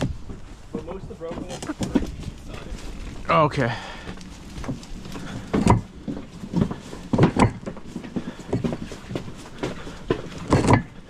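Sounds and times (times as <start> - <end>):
concrete pavers clacking: 0.0 - 11.0.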